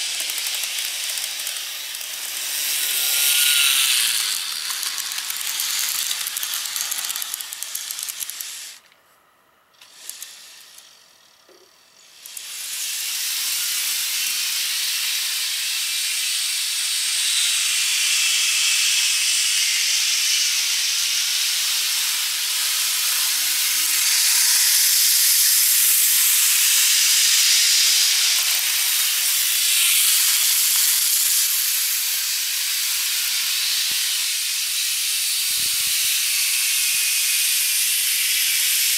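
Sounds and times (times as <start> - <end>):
model train motor hiss: 0.0 - 9.0, 9.7 - 38.9.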